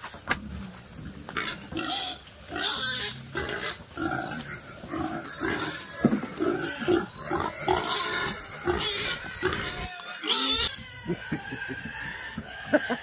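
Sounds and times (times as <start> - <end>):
pigs grunting: 0.4 - 13.0
pigs squealing: 1.3 - 13.0.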